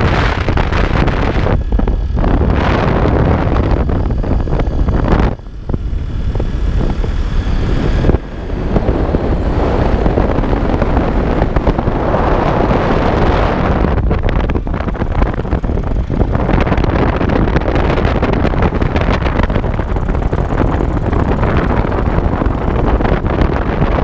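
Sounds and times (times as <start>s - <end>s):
motorcycle running: 0.0s - 24.0s
wind rushing over microphone: 0.0s - 24.0s.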